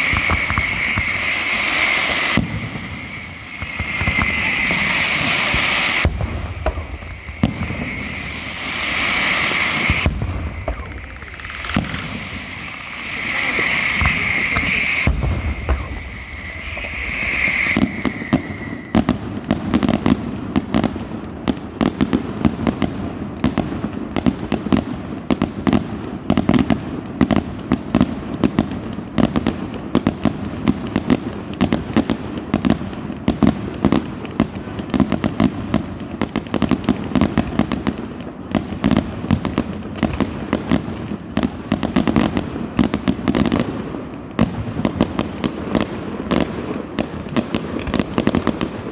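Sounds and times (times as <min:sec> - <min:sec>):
crackling firework bangs: 0:00.0 - 0:48.9
whistling firework: 0:00.0 - 0:48.9.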